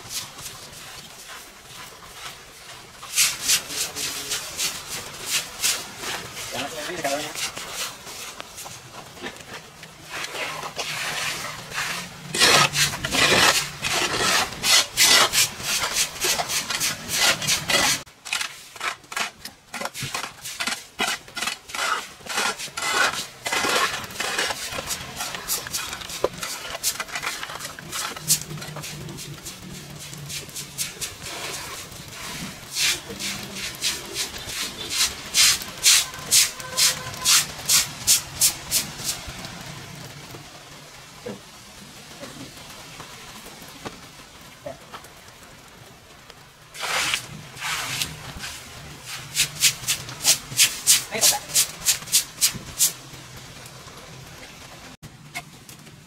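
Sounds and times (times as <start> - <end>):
scraping strokes: 0.0 - 39.2, 46.8 - 53.0.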